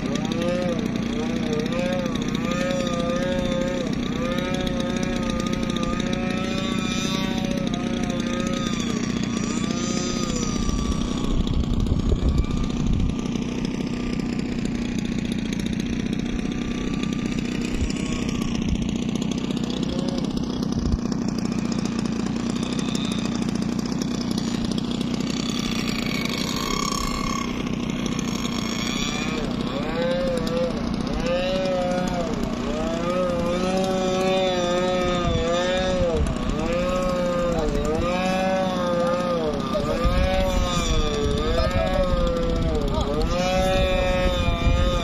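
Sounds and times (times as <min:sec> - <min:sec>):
model airplane engine: 0:00.0 - 0:45.0.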